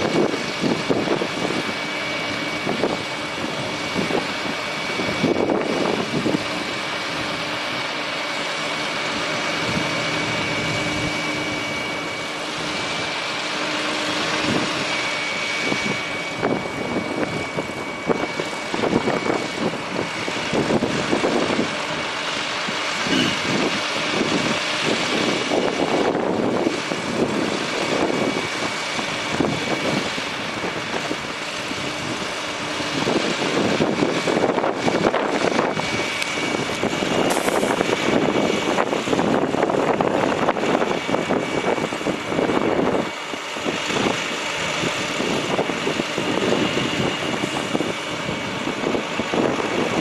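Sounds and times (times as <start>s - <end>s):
diesel truck engine running: 0.0s - 50.0s
steady high whine: 0.0s - 50.0s.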